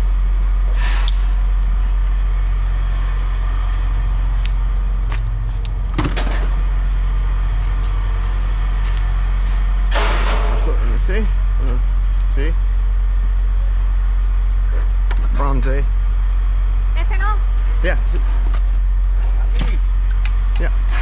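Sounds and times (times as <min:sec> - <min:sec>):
low machine drone: 0:00.0 - 0:21.0.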